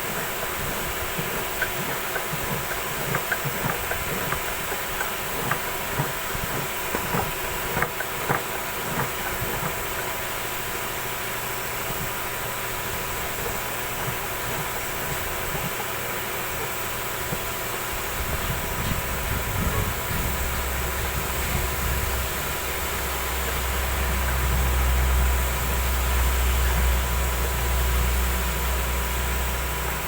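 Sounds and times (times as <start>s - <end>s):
faint hum: 0.0s - 30.0s
steady machine hiss: 0.0s - 30.0s.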